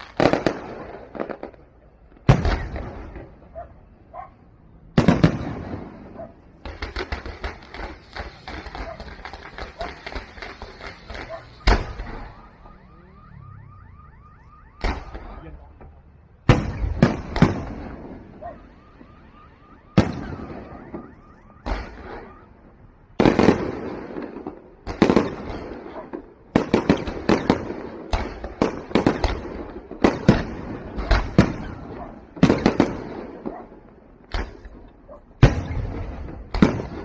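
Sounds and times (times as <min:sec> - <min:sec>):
firework booms echoing: 0:00.0 - 0:03.6, 0:04.9 - 0:12.9, 0:14.0 - 0:15.4, 0:16.4 - 0:22.5, 0:23.2 - 0:37.0.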